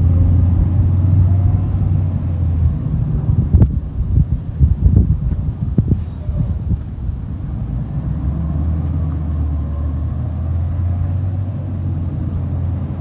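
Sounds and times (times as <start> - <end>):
garbage truck engine droning: 0.0 - 13.0.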